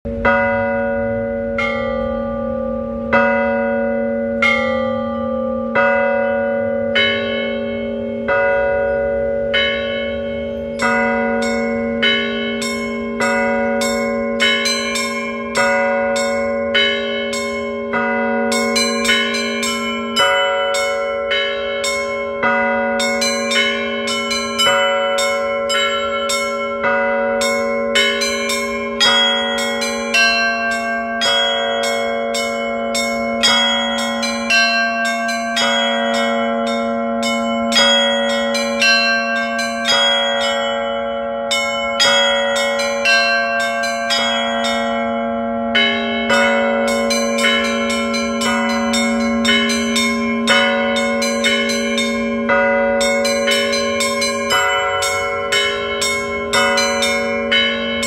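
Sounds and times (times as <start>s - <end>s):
large bell humming: 0.1s - 58.0s
small bells ringing quickly: 10.4s - 58.0s.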